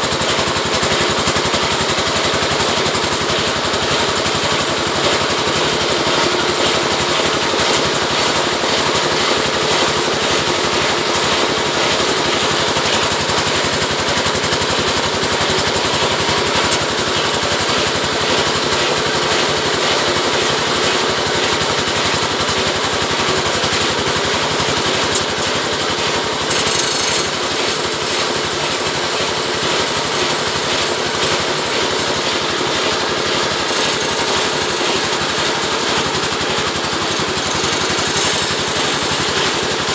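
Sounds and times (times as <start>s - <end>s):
stripping machine rattling: 0.0s - 39.9s.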